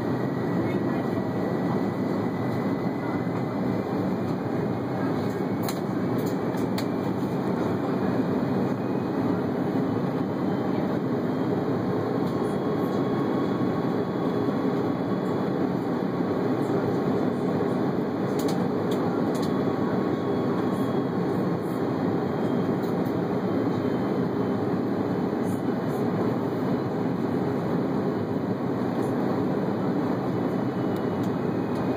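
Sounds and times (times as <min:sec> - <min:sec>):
airliner cabin rumble: 0:00.0 - 0:31.9.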